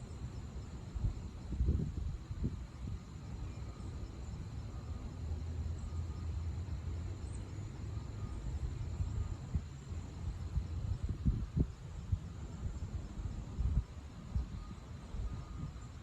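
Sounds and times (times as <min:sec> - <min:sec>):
faint high whine: 0:00.0 - 0:16.0
steady low rumble: 0:00.0 - 0:16.0.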